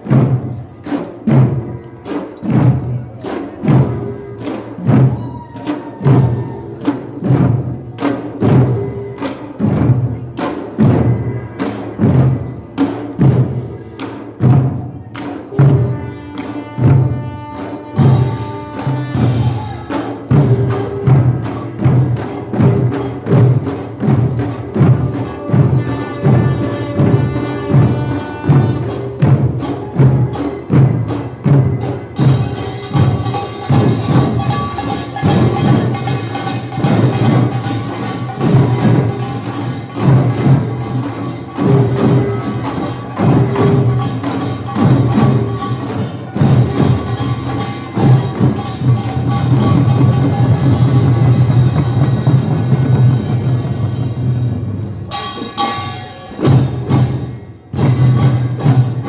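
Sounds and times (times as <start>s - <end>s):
bright metallic percussion: 0.0s - 59.0s
drums struck in steady beat: 0.0s - 59.0s.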